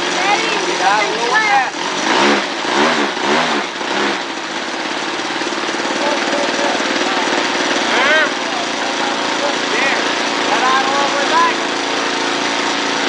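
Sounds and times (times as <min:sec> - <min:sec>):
model plane two-stroke engine running: 0:00.0 - 0:13.0.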